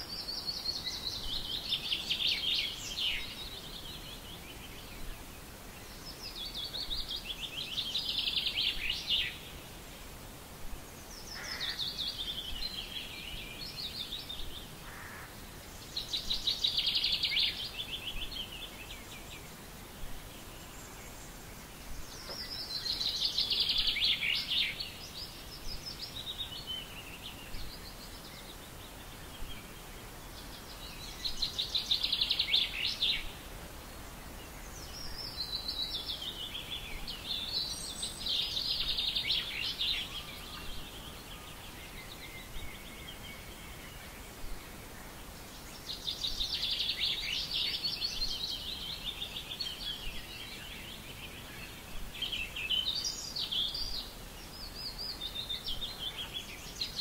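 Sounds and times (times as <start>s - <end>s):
faint outdoor hiss: 0.0s - 57.0s.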